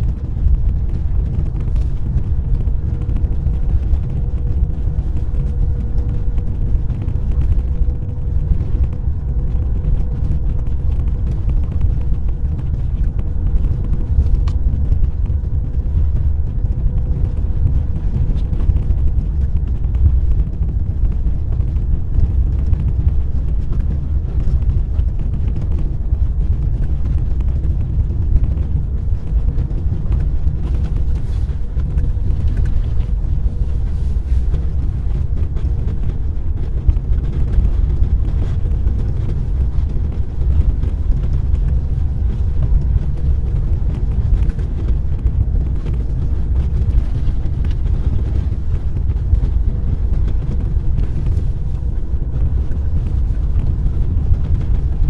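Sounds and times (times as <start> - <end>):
faint constant hum: 0.0 - 55.0.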